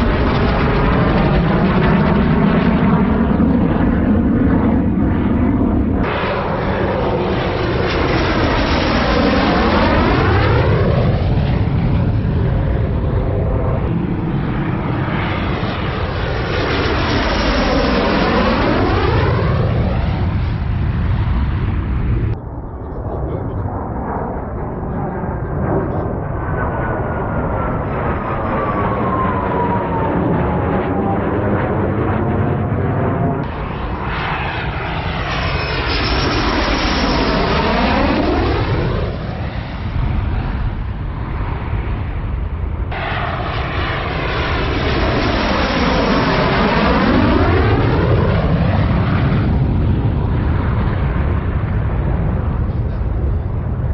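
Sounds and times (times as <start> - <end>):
jet engine flying low: 0.0 - 53.9.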